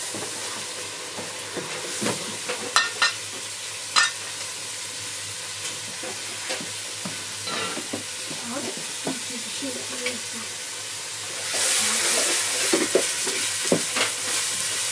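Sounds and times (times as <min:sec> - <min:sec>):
sizzling hiss from pot and fire: 0:00.0 - 0:14.9.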